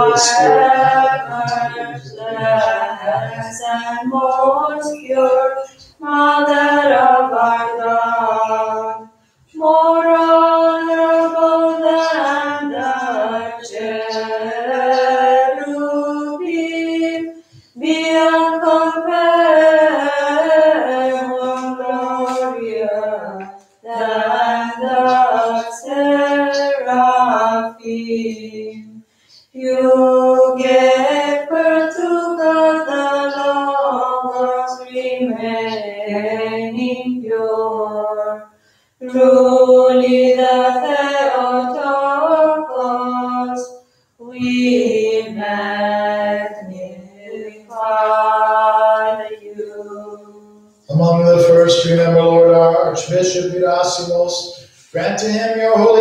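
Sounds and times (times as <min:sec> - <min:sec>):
unaccompanied church choir singing: 0:00.0 - 0:56.0.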